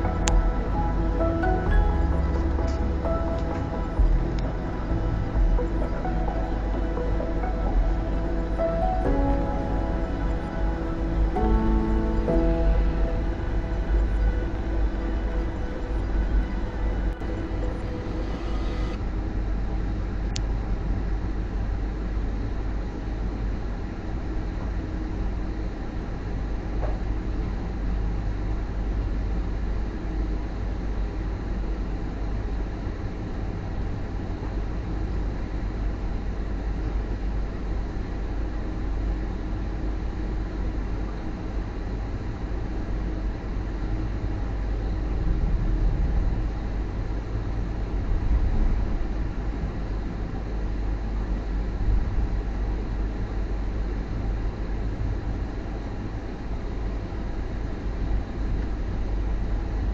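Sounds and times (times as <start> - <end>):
train carriage rumble from inside: 0.0 - 59.9.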